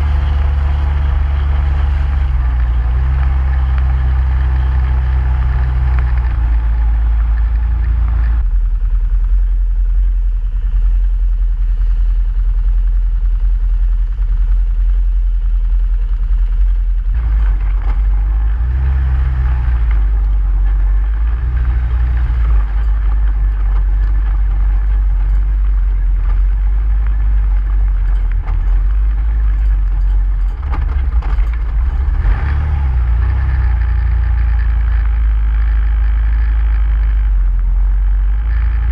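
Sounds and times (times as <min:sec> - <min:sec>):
atv engine rumbling: 0:00.0 - 0:38.9.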